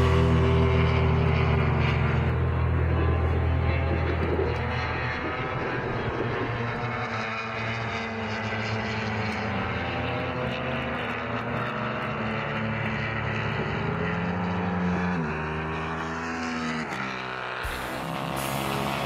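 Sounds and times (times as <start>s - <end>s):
racing motorbike engines: 0.0s - 19.0s.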